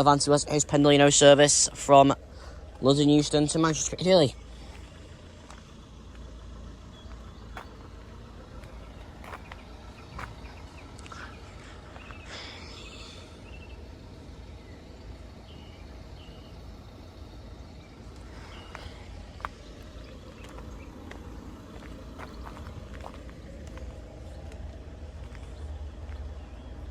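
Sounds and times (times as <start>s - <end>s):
steady low rumble: 0.0s - 26.9s.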